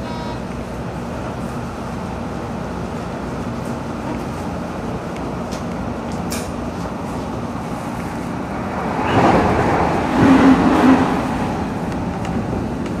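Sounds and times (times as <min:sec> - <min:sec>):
electric train wheels rumbling: 0:00.0 - 0:13.0.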